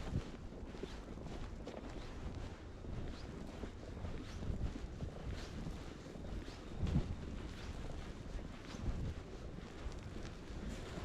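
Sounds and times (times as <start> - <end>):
footsteps crunching in snow: 0.0 - 11.0
wind buffeting microphone: 0.0 - 11.0.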